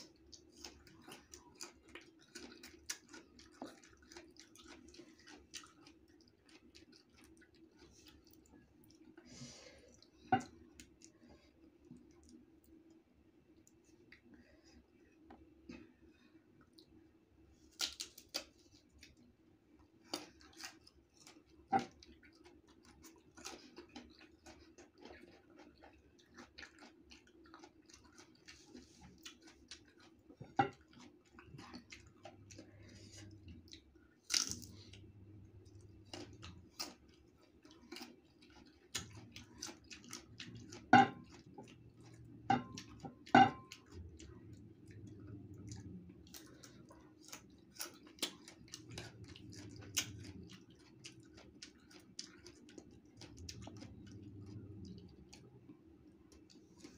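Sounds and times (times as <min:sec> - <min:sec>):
chewing crisp mango: 0:00.0 - 0:56.9
faint steady hum: 0:00.0 - 0:56.9.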